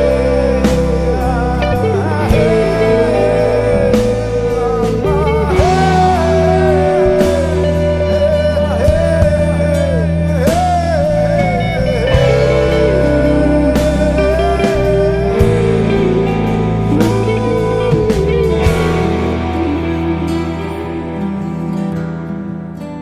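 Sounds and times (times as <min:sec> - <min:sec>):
rock lead guitar melody: 0:00.0 - 0:23.0
steady bass notes: 0:00.0 - 0:23.0.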